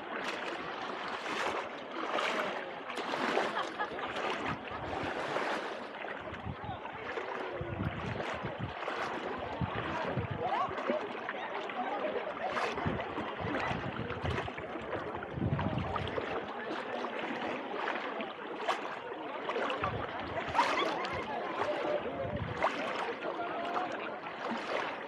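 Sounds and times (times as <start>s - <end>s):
faint chatter of people: 0.0s - 25.0s
small waves lapping at shoreline: 0.0s - 25.0s.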